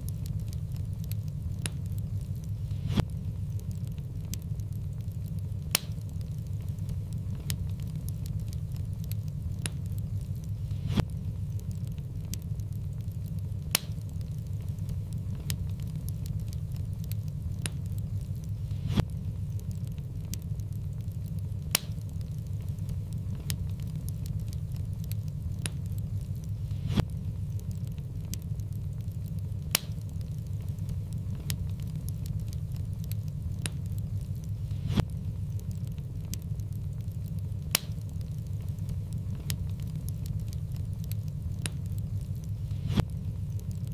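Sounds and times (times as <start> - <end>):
low rumble of flames: 0.0 - 43.9
sharp pops of fire: 0.0 - 43.9
wood fire crackling: 0.0 - 43.9.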